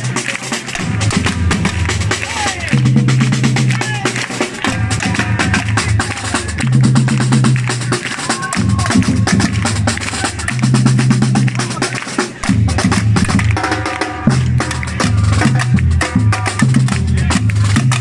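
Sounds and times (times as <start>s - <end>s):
fast drum and percussion hits: 0.0s - 18.0s
held bass line: 0.7s - 18.0s.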